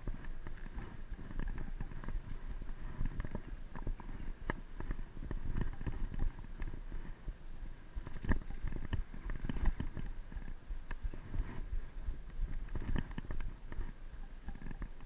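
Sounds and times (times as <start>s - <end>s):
bicycle clicks and rattles: 0.0s - 7.2s, 8.0s - 11.6s, 12.2s - 15.0s
wind buffeting microphone: 0.0s - 15.0s.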